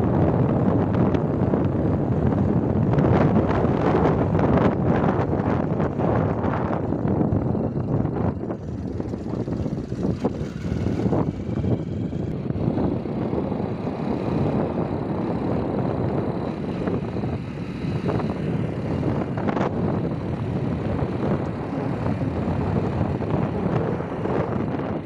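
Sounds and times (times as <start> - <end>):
motorbike engine: 0.0 - 25.0
road noise: 0.0 - 25.0
wind rushing over microphone: 0.0 - 25.0.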